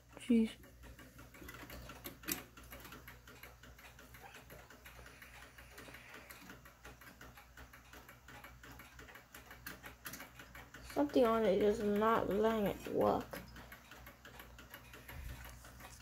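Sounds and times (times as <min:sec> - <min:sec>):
clicking and tapping of clock handling: 0:00.6 - 0:16.0.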